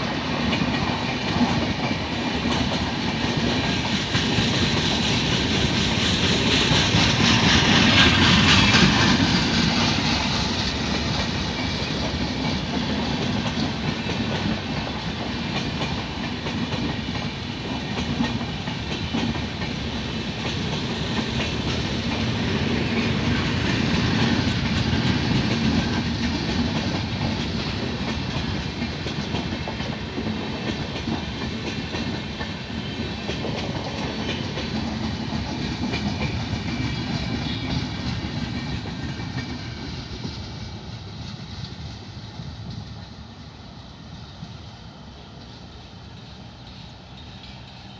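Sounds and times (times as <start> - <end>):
train coaches passing: 0.0 - 47.9.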